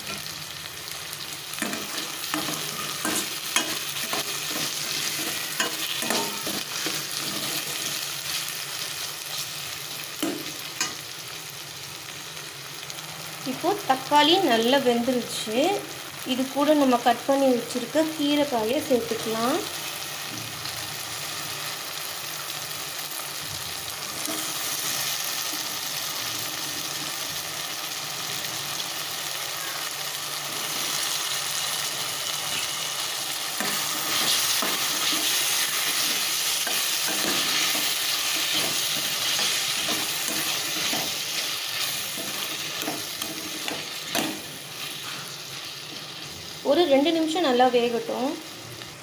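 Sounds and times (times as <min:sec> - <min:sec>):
vegetables sizzling in oil: 0:00.0 - 0:49.0.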